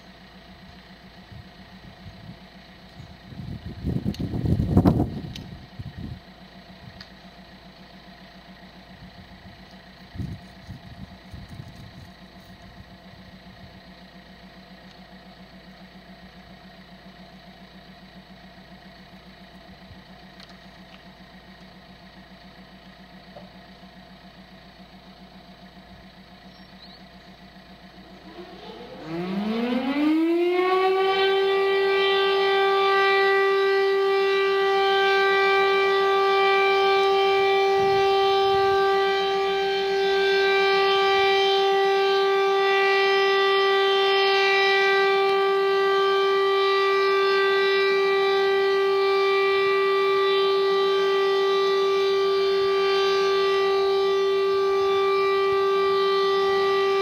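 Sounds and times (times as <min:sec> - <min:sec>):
siren winding up steady tone: 0:00.0 - 0:57.0.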